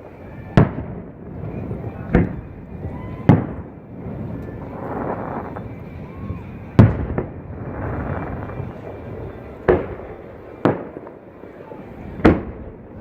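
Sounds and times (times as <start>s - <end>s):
fireworks booming: 0.0s - 13.0s
low rumble of fireworks: 0.0s - 13.0s.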